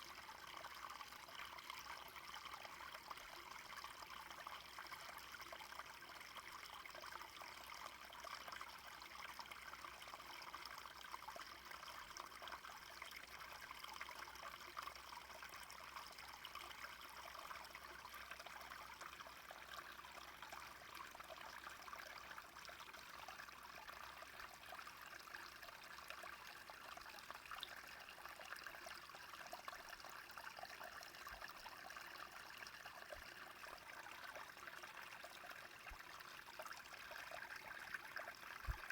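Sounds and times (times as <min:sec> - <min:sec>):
brook babbling: 0:00.0 - 0:38.9.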